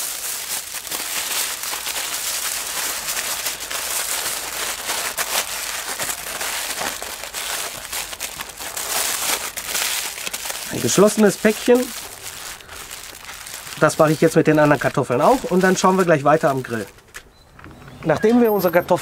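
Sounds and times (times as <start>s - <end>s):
aluminium foil crinkling: 0.0s - 17.2s.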